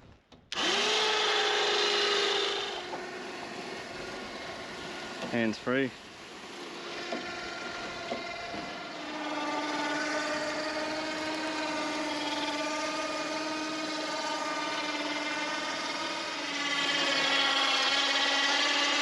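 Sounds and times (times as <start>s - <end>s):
electric winch motor hum: 0.5s - 19.0s.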